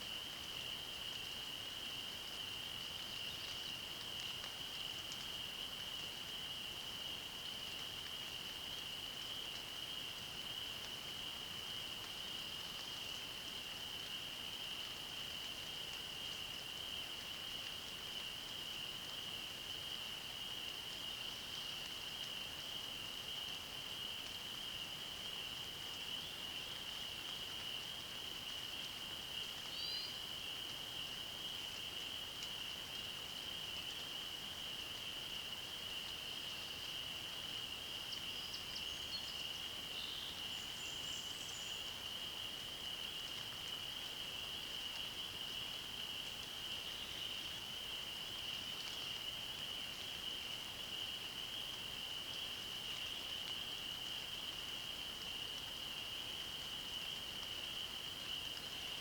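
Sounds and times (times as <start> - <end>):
light rain: 0.0 - 59.0
soft background hiss: 0.0 - 59.0.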